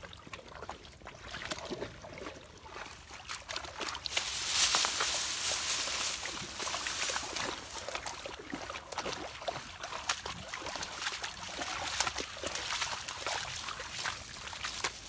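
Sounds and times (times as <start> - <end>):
dog lapping water: 0.0 - 4.4, 5.9 - 15.0
dogs splashing in water: 0.0 - 15.0.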